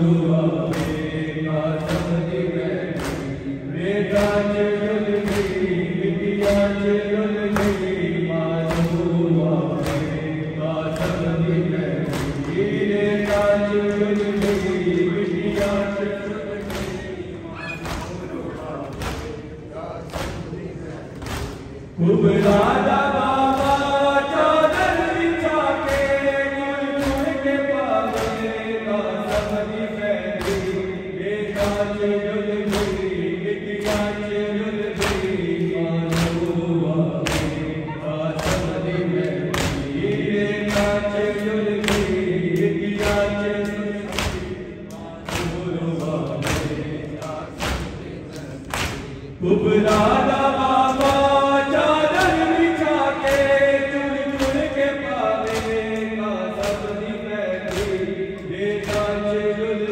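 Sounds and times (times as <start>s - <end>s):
hands striking chests rhythmically: 0.0s - 59.9s
men chanting in chorus: 0.0s - 59.9s.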